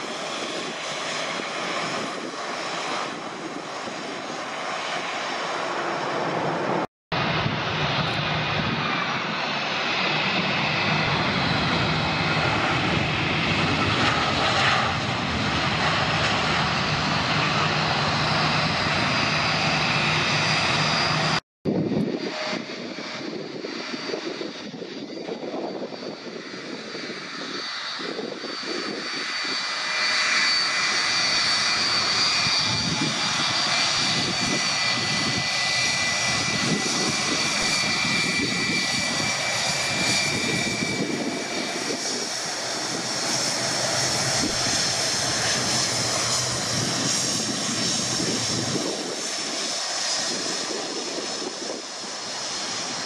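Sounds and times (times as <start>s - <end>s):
jet engines rushing: 0.0s - 53.0s.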